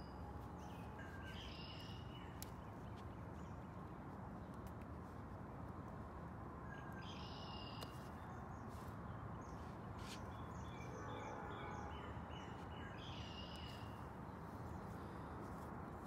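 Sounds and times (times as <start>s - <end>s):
small birds chirping: 0.0s - 6.1s, 6.7s - 16.0s.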